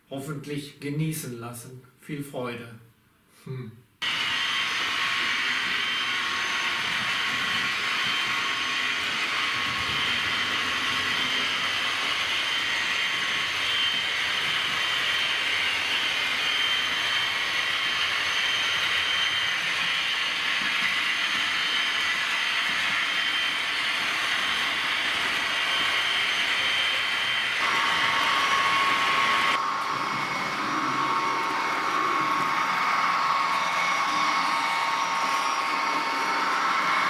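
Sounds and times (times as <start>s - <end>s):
high whine: 4.0s - 37.0s
model train running: 4.0s - 37.0s.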